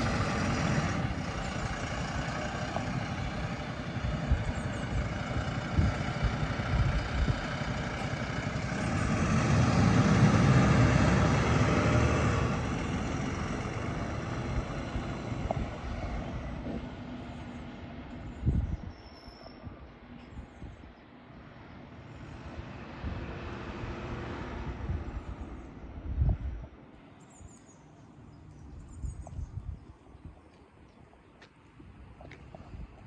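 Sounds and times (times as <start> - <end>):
bus engine pulling away: 0.0 - 18.8, 19.6 - 33.0.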